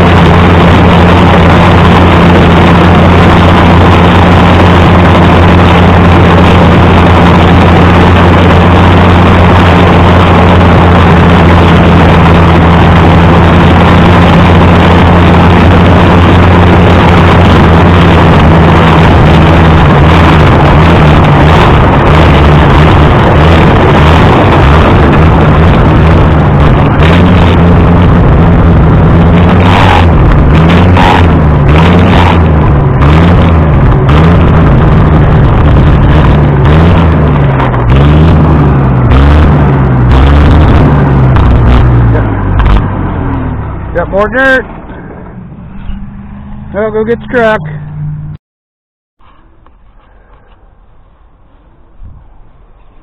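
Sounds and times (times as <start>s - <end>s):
rotary mower: 0.0s - 42.8s
tractor engine running loud: 0.0s - 48.4s, 49.2s - 53.0s.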